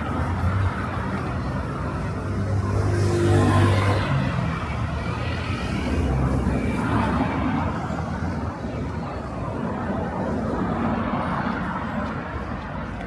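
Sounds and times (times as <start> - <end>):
murmur of people talking: 0.0 - 13.0.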